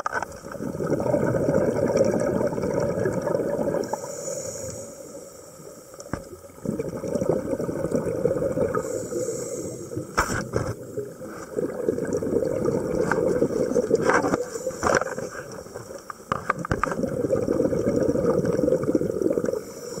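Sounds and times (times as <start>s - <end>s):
muffled underwater bubbling: 0.0s - 20.0s.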